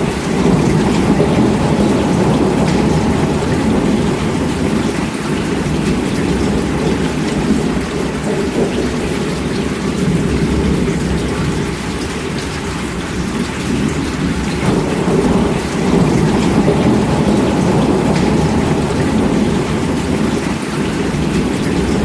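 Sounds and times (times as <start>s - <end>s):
heavy rain: 0.0s - 22.0s
thunder rumbling: 0.0s - 22.0s.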